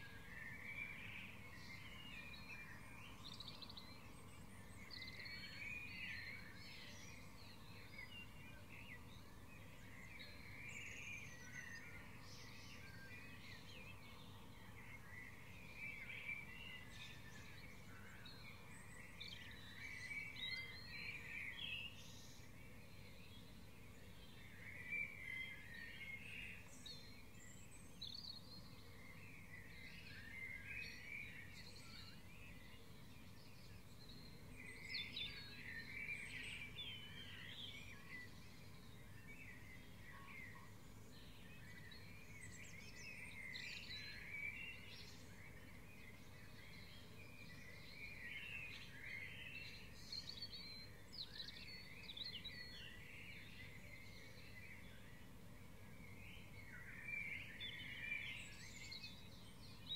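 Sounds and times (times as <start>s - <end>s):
low steady background hiss: 0.0s - 59.9s
songbirds singing: 0.0s - 59.9s.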